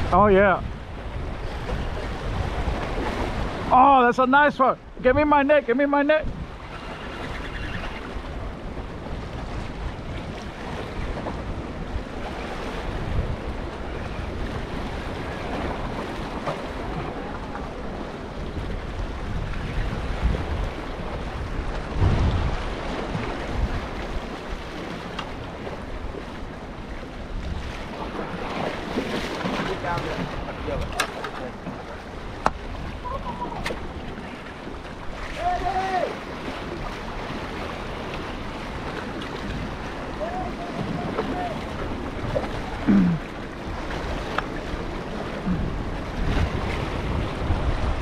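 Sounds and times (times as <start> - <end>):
wind buffeting microphone: 0.0 - 4.2, 4.8 - 48.0
surf washing against rocks: 0.0 - 48.0.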